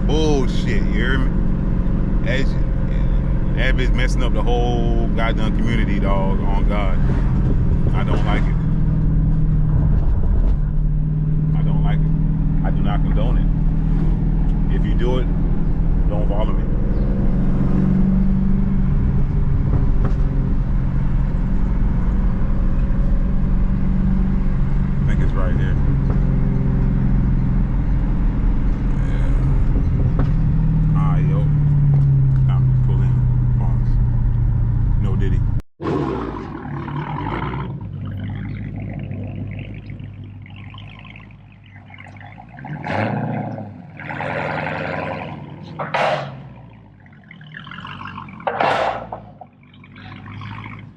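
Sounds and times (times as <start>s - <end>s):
car engine droning: 0.0s - 50.9s
engine revving surges: 0.0s - 50.9s.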